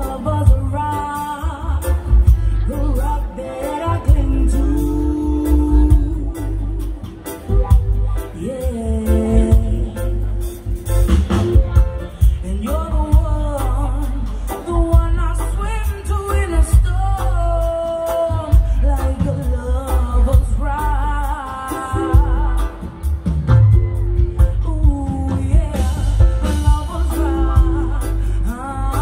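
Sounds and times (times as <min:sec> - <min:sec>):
person singing: 0:00.0 - 0:29.0
reggae band playing: 0:00.0 - 0:29.0.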